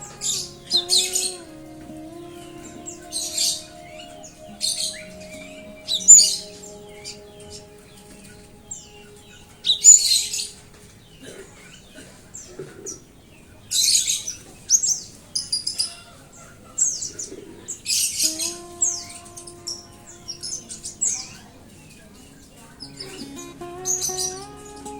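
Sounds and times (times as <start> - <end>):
bird dense chattering: 0.0 - 24.5.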